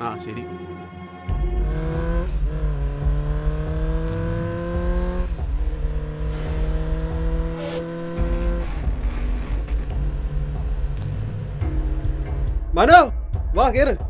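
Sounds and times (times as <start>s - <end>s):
motorcycle engine accelerating: 1.4s - 12.9s.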